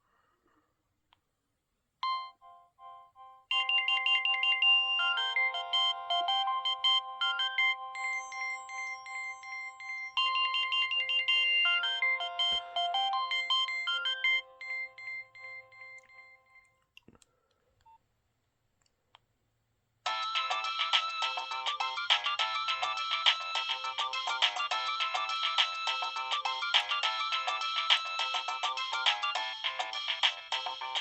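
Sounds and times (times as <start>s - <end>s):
phone ringtone tune: 2.0s - 16.7s, 20.1s - 31.0s.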